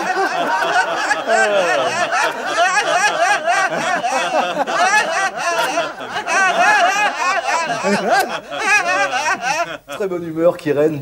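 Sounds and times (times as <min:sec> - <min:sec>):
people laughing together: 0:00.0 - 0:10.1.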